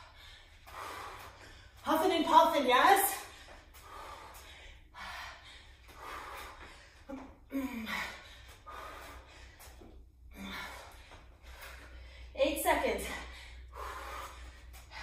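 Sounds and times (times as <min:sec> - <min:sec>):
woman breathing hard: 0:00.0 - 0:01.8, 0:03.1 - 0:12.4, 0:13.0 - 0:15.0.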